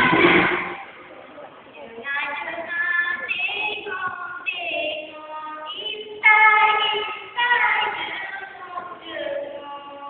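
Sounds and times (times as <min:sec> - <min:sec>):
young voices singing: 0:00.0 - 0:01.0, 0:02.6 - 0:10.0.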